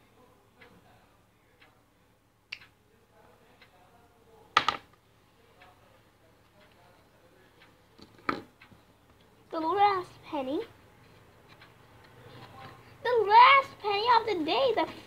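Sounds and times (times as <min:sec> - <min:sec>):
wall clock ticking: 0:00.5 - 0:15.0.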